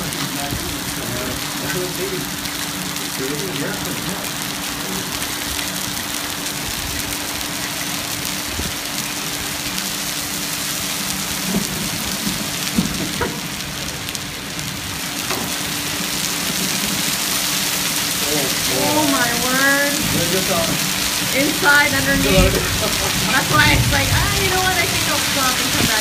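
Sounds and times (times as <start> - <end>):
heavy rain on pavement: 0.0 - 26.0.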